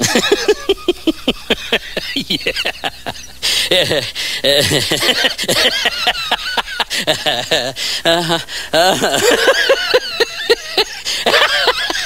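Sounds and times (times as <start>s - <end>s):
person laughing hard: 0.0s - 12.0s.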